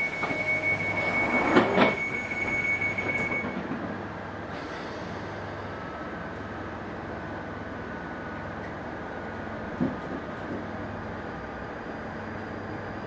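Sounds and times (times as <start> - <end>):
train car hum: 0.0 - 13.0.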